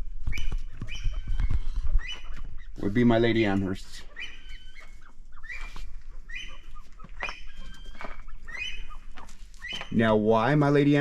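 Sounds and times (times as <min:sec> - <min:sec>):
game birds chirping: 0:00.0 - 0:11.0.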